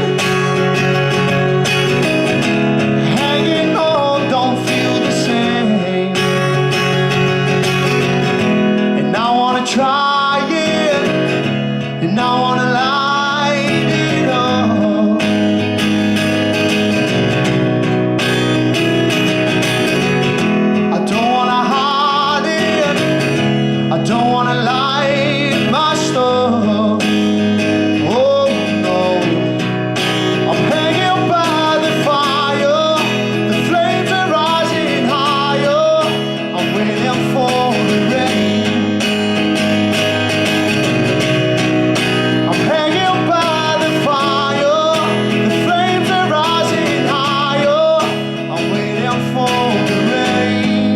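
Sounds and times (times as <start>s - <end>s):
man singing: 0.0s - 16.2s, 19.9s - 50.9s
strummed acoustic guitar: 0.0s - 50.9s.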